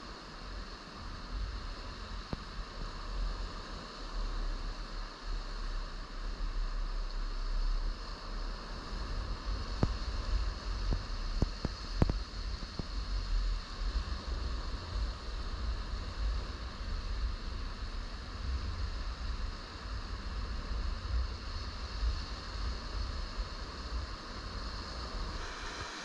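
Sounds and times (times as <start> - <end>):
small waves on sandy shore: 0.0 - 26.0.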